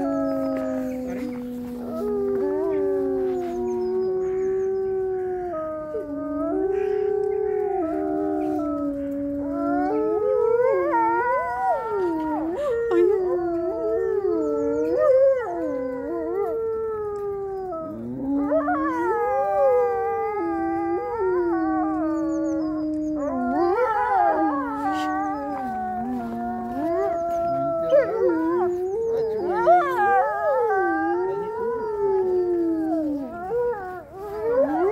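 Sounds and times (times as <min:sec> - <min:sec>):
wolves howling in chorus: 0:00.0 - 0:34.9.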